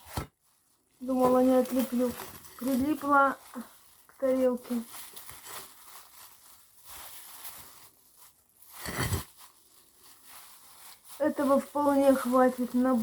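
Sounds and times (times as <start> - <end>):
crinkling scrape: 0.0 - 13.0
handling frozen chicken: 0.0 - 13.0.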